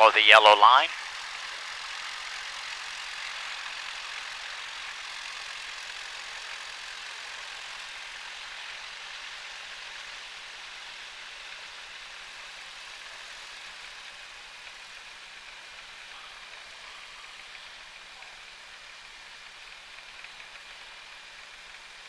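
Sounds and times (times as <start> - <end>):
airplane engine and propeller hum: 0.0 - 22.0.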